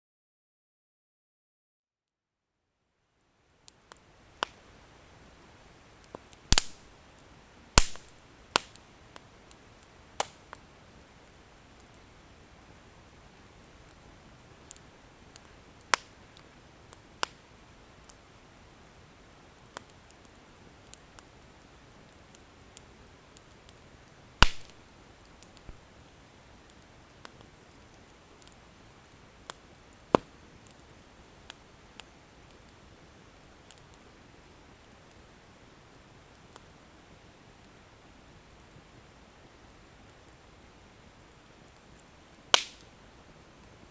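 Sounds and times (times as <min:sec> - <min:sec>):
faint steady hiss: 0:02.4 - 0:43.9
bonfire crackling and popping: 0:03.6 - 0:43.9.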